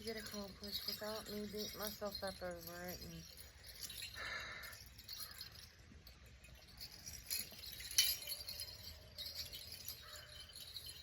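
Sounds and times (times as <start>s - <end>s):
metallic jingling and clinking: 0.0s - 11.0s.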